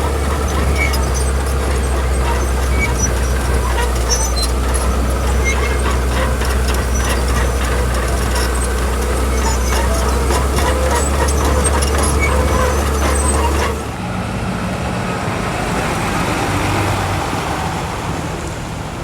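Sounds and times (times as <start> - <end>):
diesel engine drone: 0.0 - 16.1.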